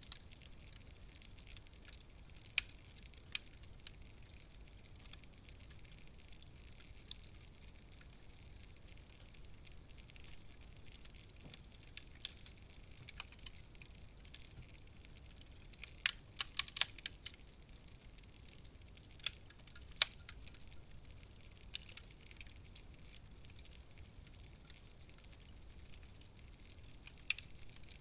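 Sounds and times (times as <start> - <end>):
fire snapping and popping: 0.0 - 28.0
wood fire crackling: 0.0 - 28.0.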